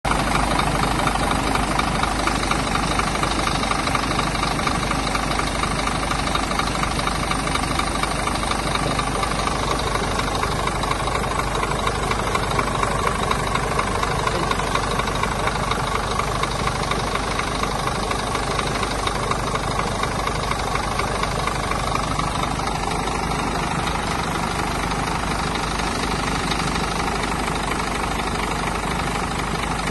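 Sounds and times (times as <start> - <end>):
diesel engine idling: 0.1 - 29.9.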